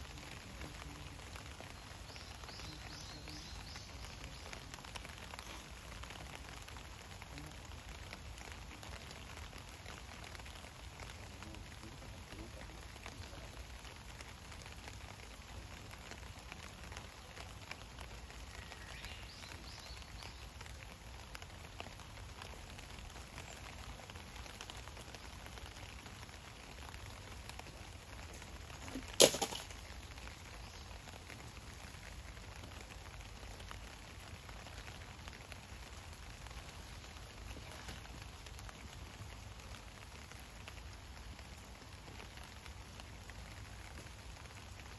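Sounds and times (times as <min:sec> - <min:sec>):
light rain hissing: 0:00.0 - 0:44.9.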